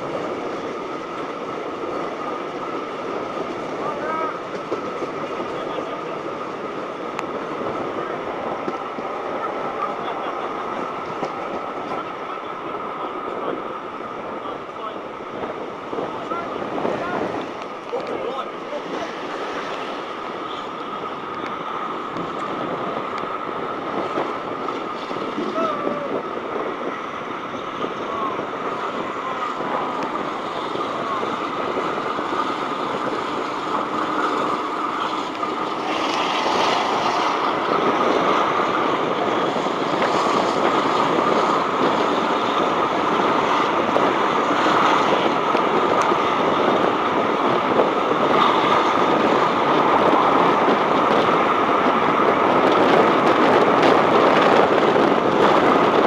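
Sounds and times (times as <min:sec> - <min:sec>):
train carriage rumbling on rails: 0:00.0 - 0:56.0.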